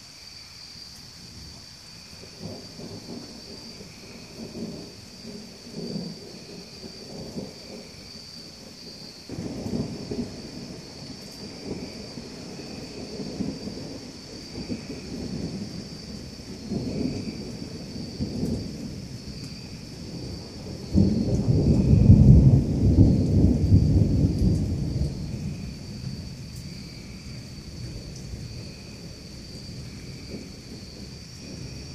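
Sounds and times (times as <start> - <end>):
steady rain: 0.0 - 31.9
thunder rumbling: 2.2 - 31.9.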